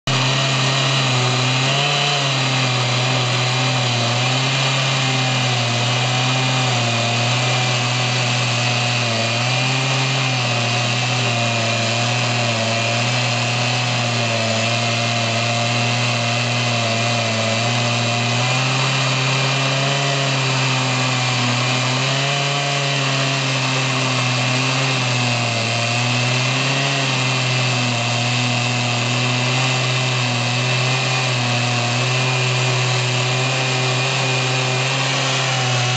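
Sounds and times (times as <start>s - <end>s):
electric mill motor humming: 0.1s - 35.9s.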